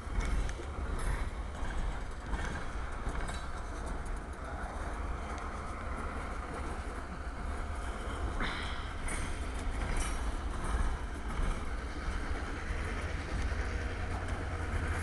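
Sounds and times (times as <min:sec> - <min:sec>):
freight cars rolling on rails: 0:00.0 - 0:15.0.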